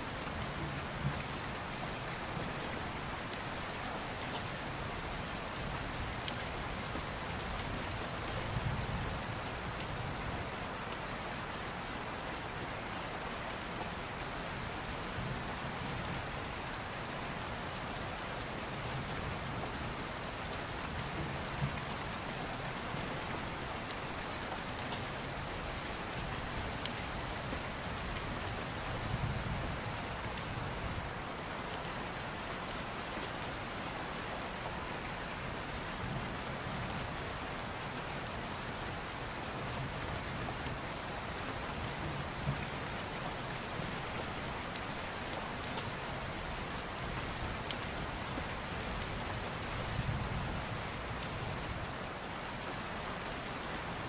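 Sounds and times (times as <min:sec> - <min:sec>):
steady rain hiss: 0:00.0 - 0:54.0
rain ticks: 0:00.1 - 0:11.0, 0:12.4 - 0:32.0, 0:32.6 - 0:52.0.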